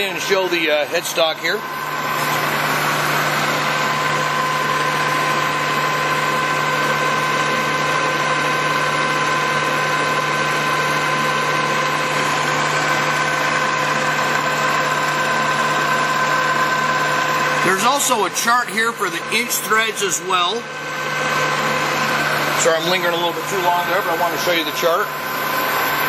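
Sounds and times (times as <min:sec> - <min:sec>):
drive whine: 0:00.0 - 0:26.0
lathe running: 0:00.0 - 0:26.0.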